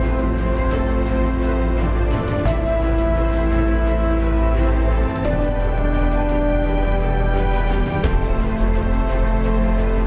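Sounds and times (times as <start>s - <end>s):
cinematic music with heavy bass: 0.0s - 10.0s.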